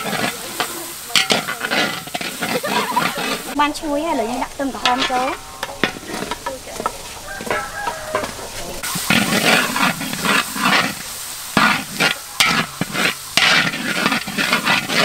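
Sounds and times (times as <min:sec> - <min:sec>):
food sizzling: 0:00.0 - 0:15.0
metal ladle scraping wok: 0:00.0 - 0:15.0.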